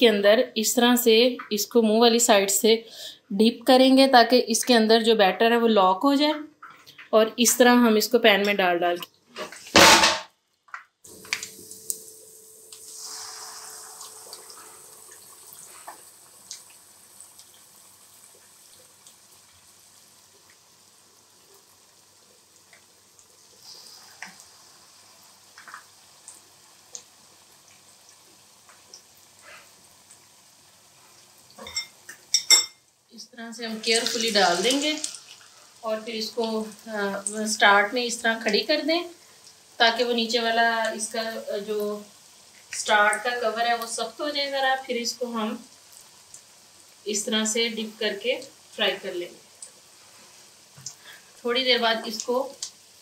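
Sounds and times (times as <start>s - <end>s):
oil sizzling with pops: 0.6s - 53.0s.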